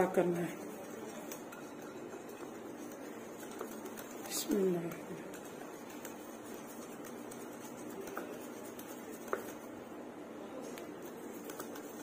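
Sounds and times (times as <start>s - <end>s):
whisk stirring batter in bowl: 0.0s - 9.9s, 10.6s - 12.0s.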